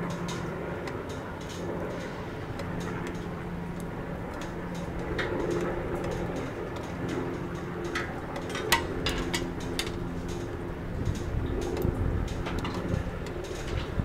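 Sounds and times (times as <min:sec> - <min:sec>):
distant low rumble: 0:00.0 - 0:14.0
steady hum: 0:00.0 - 0:14.0.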